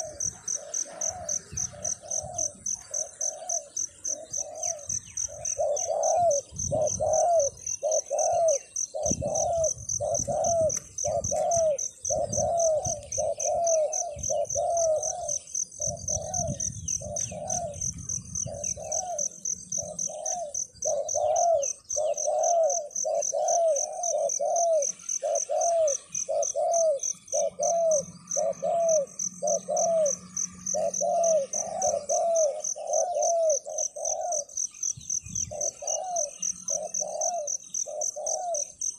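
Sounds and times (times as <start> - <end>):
dove cooing: 0.0 - 38.9
pulsing insect drone: 0.0 - 38.9.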